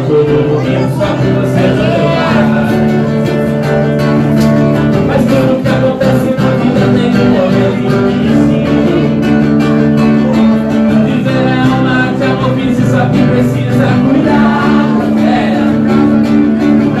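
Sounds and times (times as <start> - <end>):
acoustic guitar: 0.0 - 17.0
person singing: 0.0 - 17.0.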